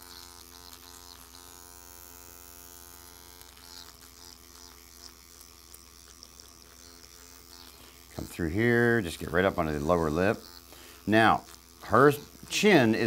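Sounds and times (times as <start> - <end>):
microneedling pen buzzing: 0.0 - 13.0.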